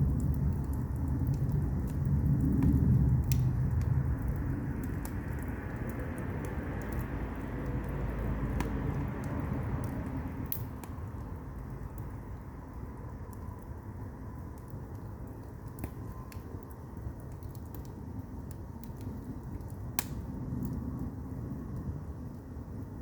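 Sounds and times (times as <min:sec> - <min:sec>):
fire rumbling: 0:00.0 - 0:23.0
logs popping and crackling: 0:00.0 - 0:23.0.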